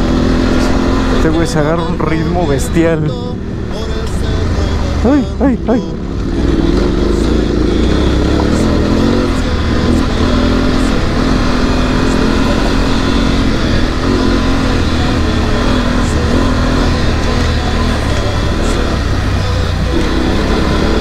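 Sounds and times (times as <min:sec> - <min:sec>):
motorcycle engine under load: 0:00.0 - 0:21.0.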